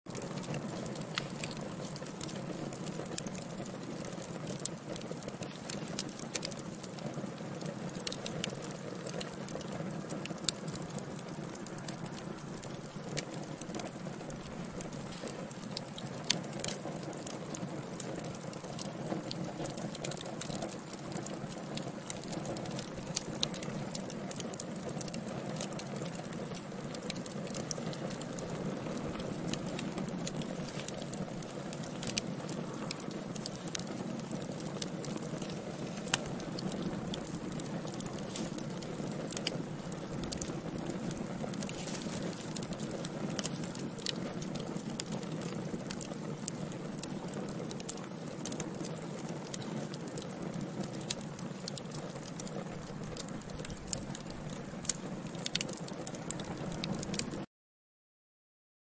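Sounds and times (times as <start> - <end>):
fire flames burning: 0.1 - 57.4
fire crackling and popping: 0.1 - 57.5.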